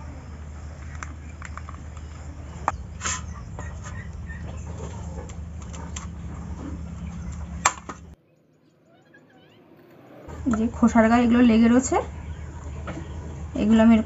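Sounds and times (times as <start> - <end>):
steady low hum: 0.0 - 8.2, 10.0 - 14.0.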